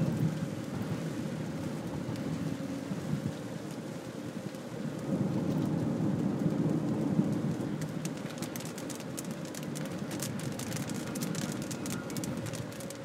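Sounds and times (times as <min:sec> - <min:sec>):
rain drumming on car roof: 0:00.0 - 0:13.0.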